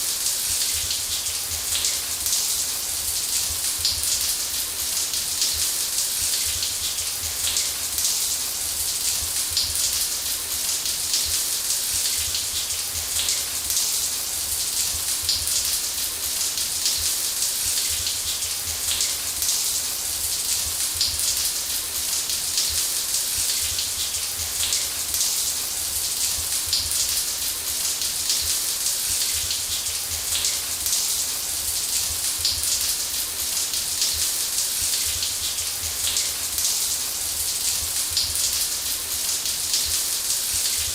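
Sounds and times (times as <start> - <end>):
shower spraying water: 0.0 - 40.9.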